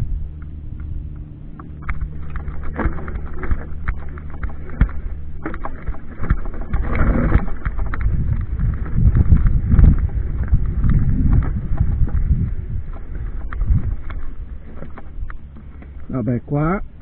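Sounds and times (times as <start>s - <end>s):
mountain bike rattling: 0.0s - 17.0s
steady low hum: 0.0s - 17.0s.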